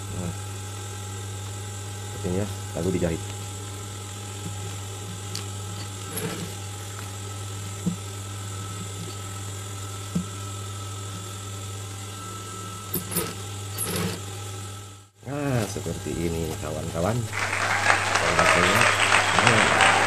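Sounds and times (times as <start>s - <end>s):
sewing machine motor hum: 0.9s - 20.0s.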